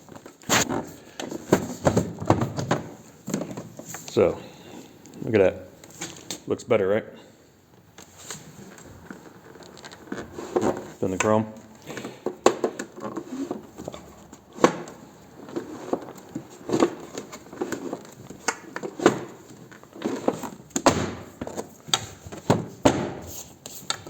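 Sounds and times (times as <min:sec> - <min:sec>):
handling clicks and knocks: 0:00.0 - 0:04.2, 0:07.7 - 0:24.0.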